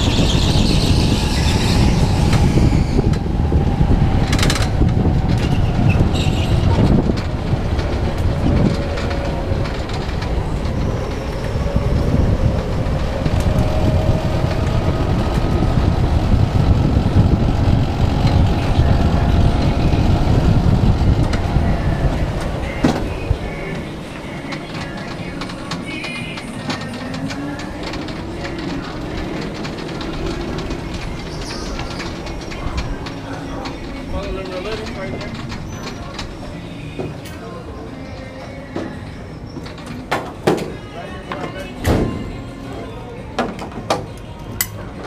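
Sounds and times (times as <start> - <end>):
go-kart rumbling on concrete: 0.0 - 44.2.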